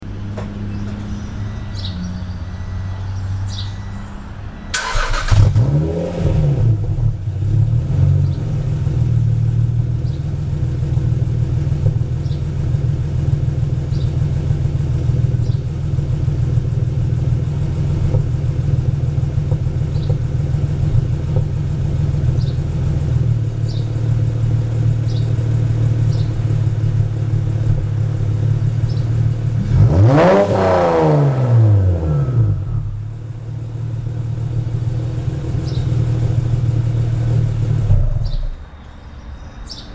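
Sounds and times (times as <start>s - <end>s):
car engine starting and idling: 0.0s - 39.9s.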